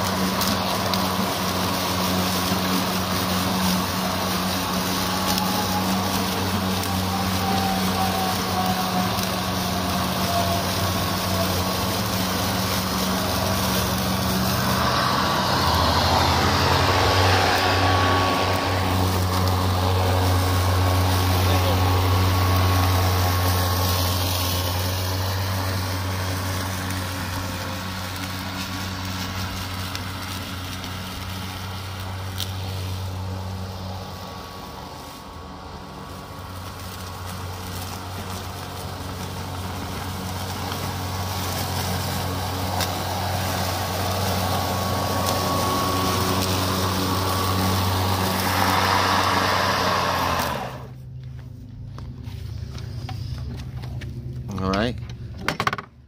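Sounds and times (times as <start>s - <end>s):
lawn mower cutting grass: 0.0s - 55.8s.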